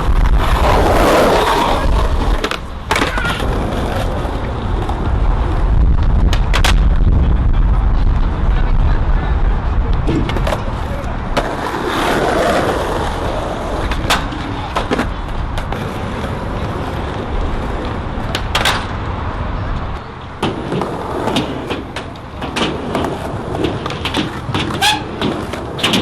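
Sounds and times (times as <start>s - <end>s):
skateboard clacks and knocks: 0.0s - 7.0s, 9.8s - 26.0s
skateboard wheels rolling on concrete: 0.0s - 26.0s.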